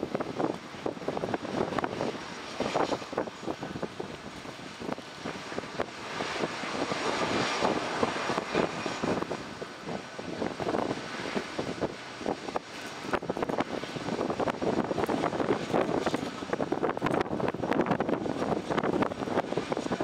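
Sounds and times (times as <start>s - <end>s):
jet engines rumbling and hissing: 0.0s - 20.0s.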